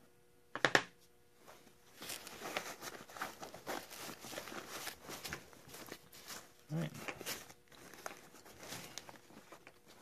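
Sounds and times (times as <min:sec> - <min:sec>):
rustling in nylon bag: 0:01.4 - 0:10.0.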